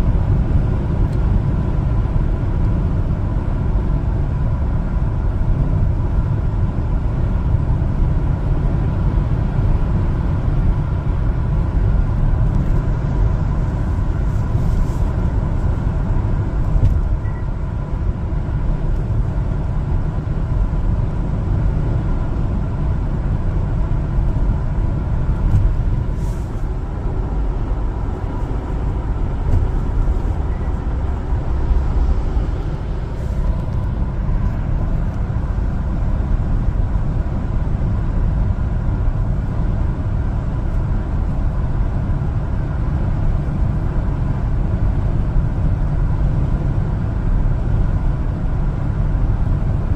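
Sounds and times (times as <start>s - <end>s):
truck engine and road rumble: 0.0s - 49.9s.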